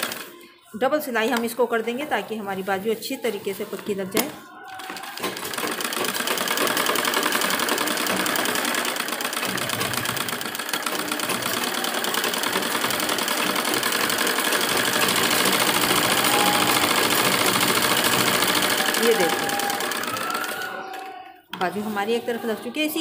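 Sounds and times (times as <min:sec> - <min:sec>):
sewing machine running: 0:00.0 - 0:00.4, 0:03.3 - 0:23.0.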